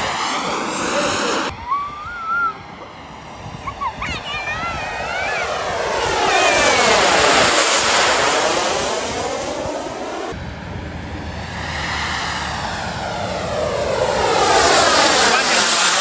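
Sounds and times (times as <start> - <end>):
model jet engine whine: 0.0 - 16.0.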